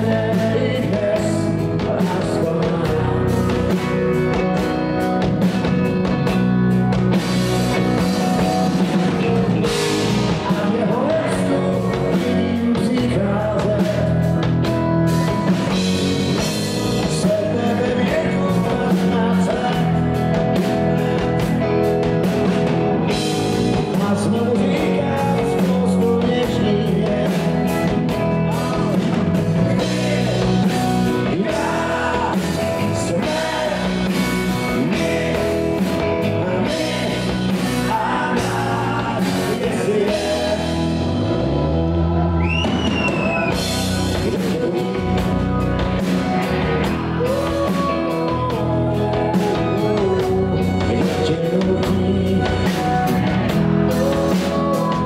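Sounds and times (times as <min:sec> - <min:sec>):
bass guitar: 0:00.0 - 0:55.0
drum kit: 0:00.0 - 0:55.0
electric guitar: 0:00.0 - 0:55.0
keyboards: 0:00.0 - 0:55.0.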